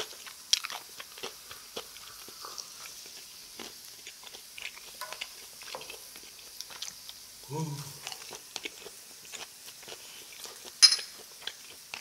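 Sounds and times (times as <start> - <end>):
person chewing and smacking: 0.0 - 7.2, 7.8 - 12.0.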